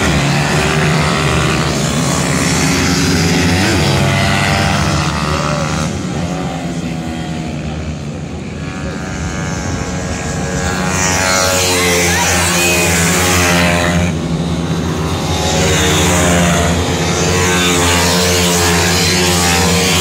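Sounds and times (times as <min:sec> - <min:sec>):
pit bike engines revving high: 0:00.0 - 0:20.0.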